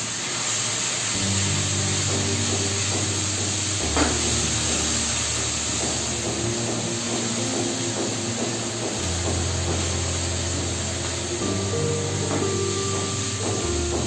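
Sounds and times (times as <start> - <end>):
potatoes sizzling in oil: 0.0 - 14.0
soft background music: 1.2 - 14.0.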